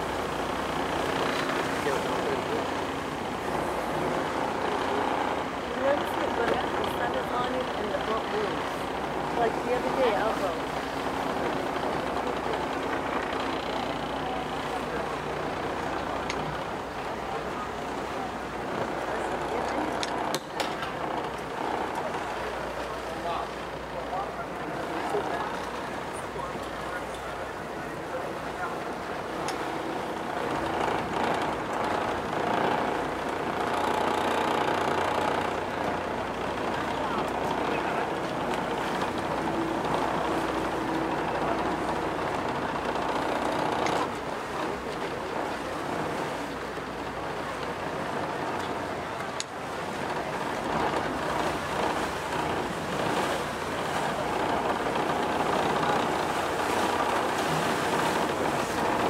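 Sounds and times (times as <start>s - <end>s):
boat engine droning: 0.0s - 59.0s
water rushing: 0.0s - 59.0s.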